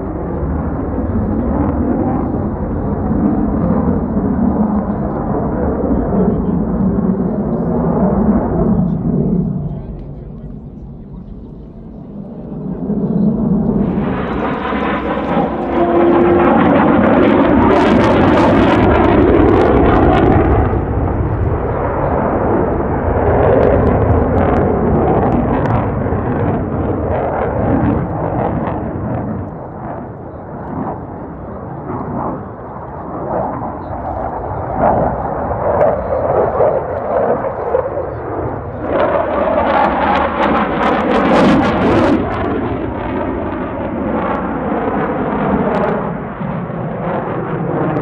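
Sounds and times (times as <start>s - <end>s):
fighter jet flying past: 0.0s - 48.0s.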